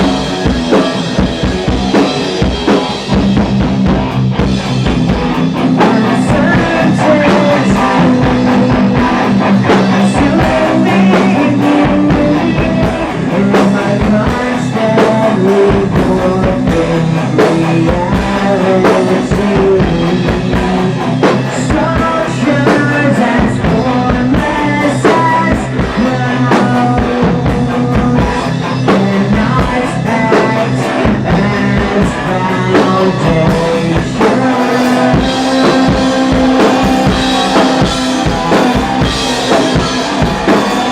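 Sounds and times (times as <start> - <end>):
heavy metal band playing: 0.0 - 40.9.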